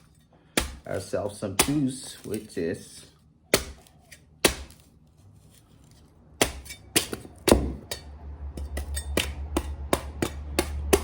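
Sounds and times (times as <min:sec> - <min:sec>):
knife chopping coconut husk: 0:00.0 - 0:02.6, 0:03.5 - 0:04.9, 0:05.5 - 0:11.0.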